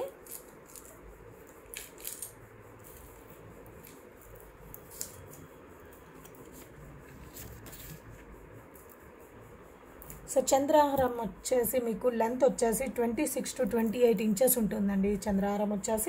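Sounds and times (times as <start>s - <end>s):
low steady background rumble: 0.0s - 16.0s.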